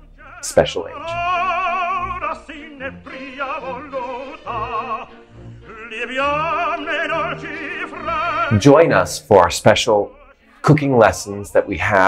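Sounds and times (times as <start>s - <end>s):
operatic voice singing: 0.0s - 12.0s.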